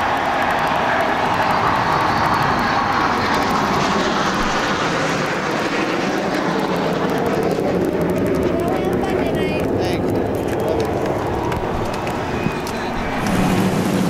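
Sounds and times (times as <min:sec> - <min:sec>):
jet roar overhead: 0:00.0 - 0:14.0.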